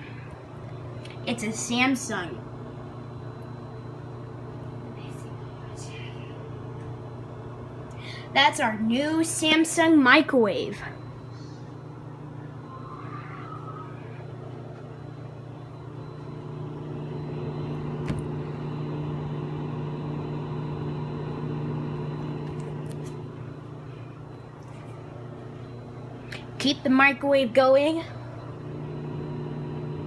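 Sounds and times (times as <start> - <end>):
microwave oven humming: 0.0 - 30.0.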